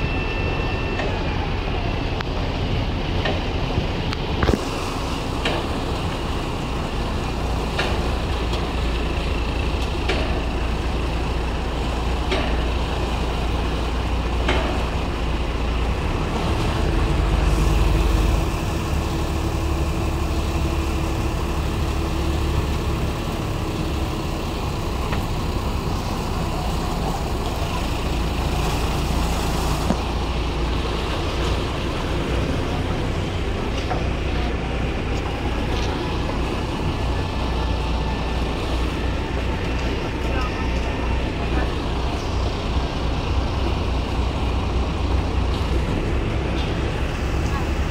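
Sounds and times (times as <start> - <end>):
boat engine drone: 0.0 - 47.9
rushing water: 0.0 - 47.9.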